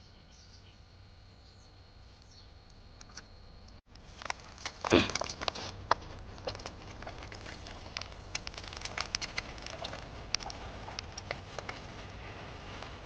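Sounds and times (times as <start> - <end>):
low steady background noise: 0.0 - 13.0
small crackles and sharp ticks: 2.2 - 13.0.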